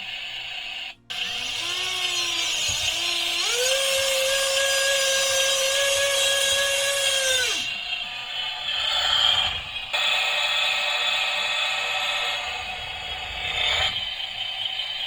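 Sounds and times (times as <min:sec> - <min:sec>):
small electric motor whining: 0:01.1 - 0:15.0.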